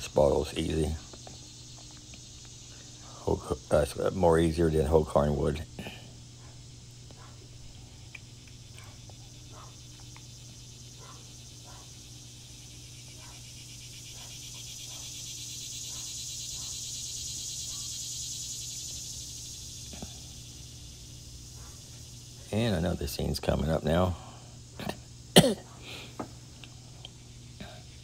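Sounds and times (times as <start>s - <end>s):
cicada pulsing buzz: 0.0s - 28.0s.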